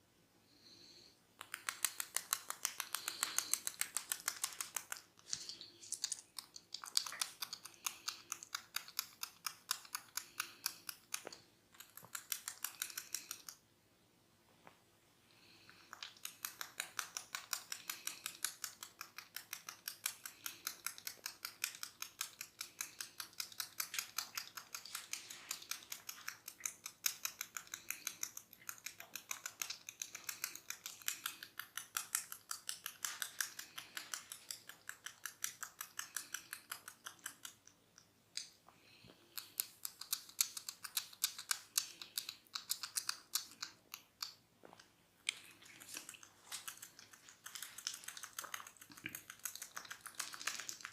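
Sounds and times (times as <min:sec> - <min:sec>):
hair crackling snaps: 0:01.4 - 0:13.6, 0:15.5 - 0:50.9.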